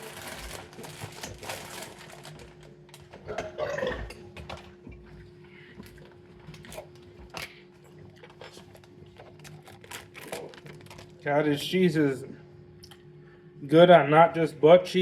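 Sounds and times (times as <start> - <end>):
steady faint hum: 0.0 - 15.0.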